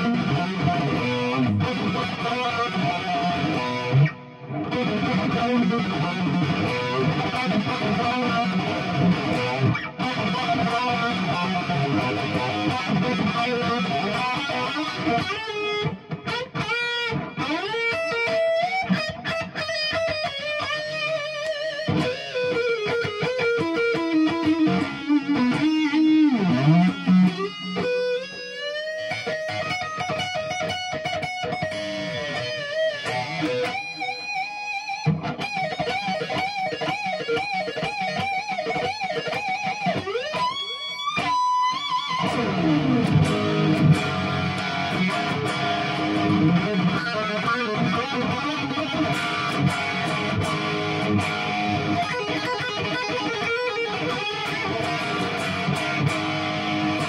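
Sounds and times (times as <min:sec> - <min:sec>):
electric guitar through amp: 0:00.0 - 0:57.0.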